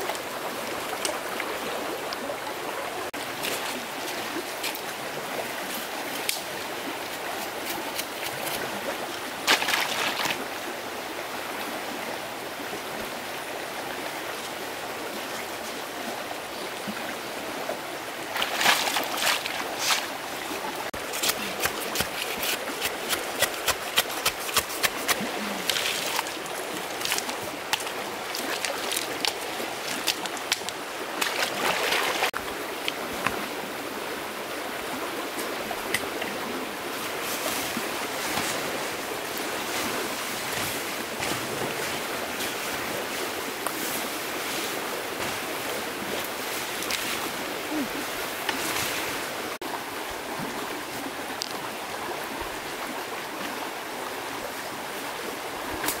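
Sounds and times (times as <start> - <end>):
water splashes: 0.0 - 10.8, 14.3 - 33.8, 34.4 - 56.0
stream water flowing: 0.0 - 56.0.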